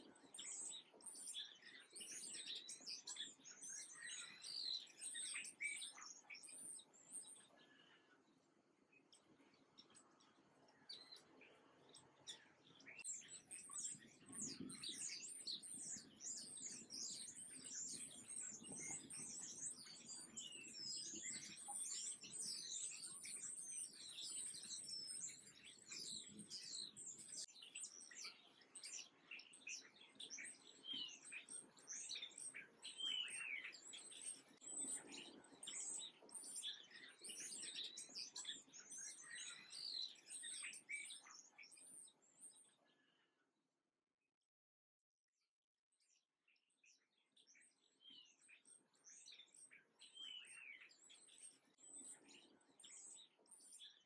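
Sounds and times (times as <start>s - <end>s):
small birds chirping: 0.0s - 43.4s, 45.9s - 54.0s.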